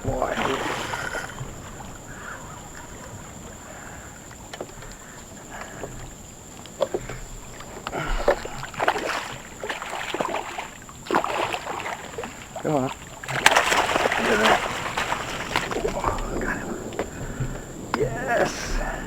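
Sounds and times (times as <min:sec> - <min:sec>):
fish thrashing at surface: 0:00.0 - 0:04.0, 0:04.8 - 0:17.6
water splashing and sloshing: 0:00.0 - 0:19.0.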